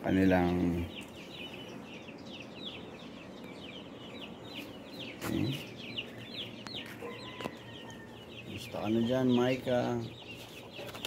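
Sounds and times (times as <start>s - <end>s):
adult bird low call: 0.0s - 11.0s
chicks peeping: 0.0s - 11.0s.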